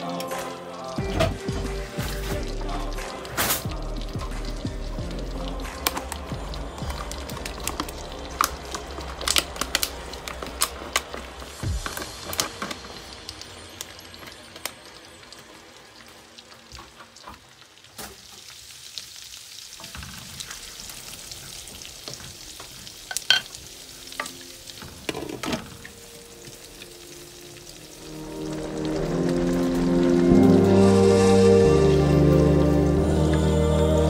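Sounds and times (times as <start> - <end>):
bacon sizzling in a frying pan: 0.0 - 30.7.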